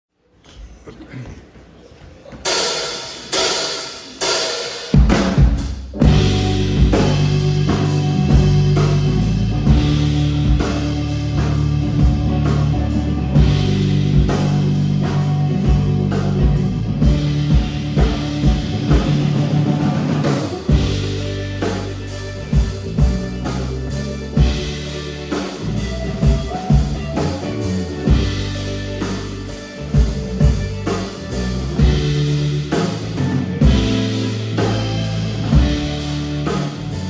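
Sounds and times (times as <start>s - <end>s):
rock band playing: 2.4s - 37.0s.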